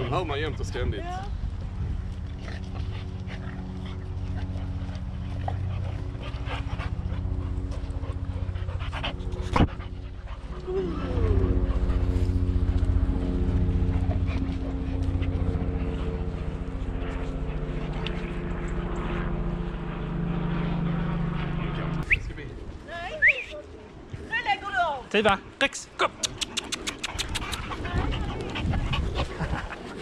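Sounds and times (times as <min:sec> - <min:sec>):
dogs panting: 0:00.0 - 0:23.2, 0:26.1 - 0:30.0
helicopter droning overhead: 0:00.0 - 0:30.0.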